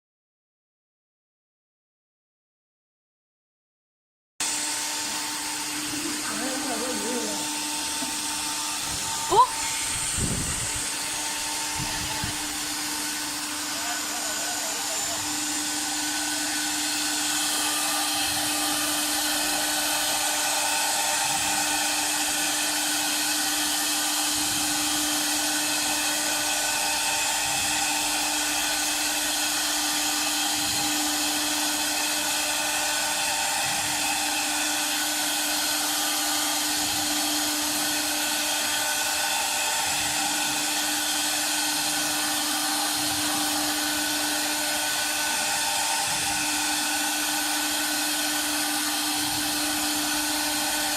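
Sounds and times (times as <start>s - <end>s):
cooling fan rushing: 4.4s - 50.9s
router spindle whine: 4.4s - 50.9s.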